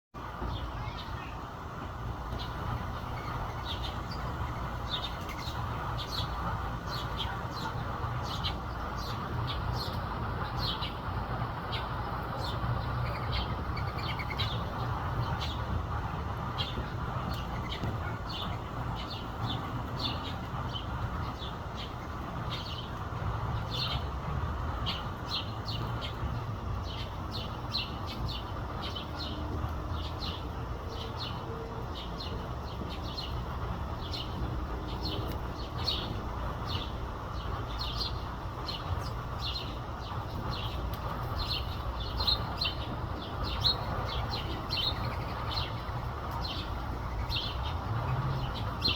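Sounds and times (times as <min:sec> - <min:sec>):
sparrows chirping: 0:00.2 - 0:48.9.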